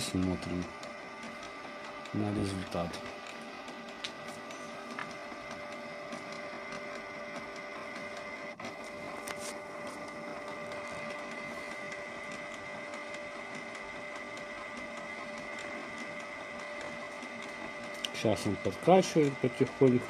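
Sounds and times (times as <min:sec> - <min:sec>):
printer click: 0:00.0 - 0:20.0
printer motor whine: 0:00.0 - 0:20.0
printer ticking: 0:00.0 - 0:20.0.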